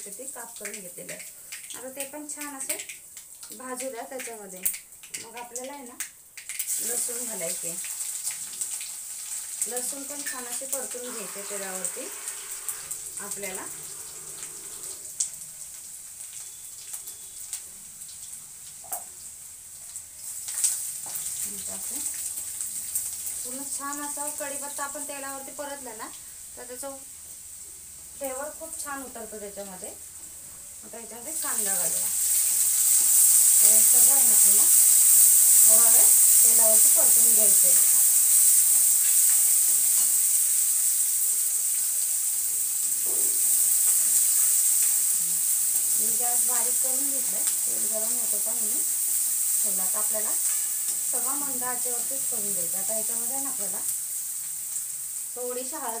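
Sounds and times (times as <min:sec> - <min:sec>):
spices sizzling in hot oil: 0:00.0 - 0:56.0.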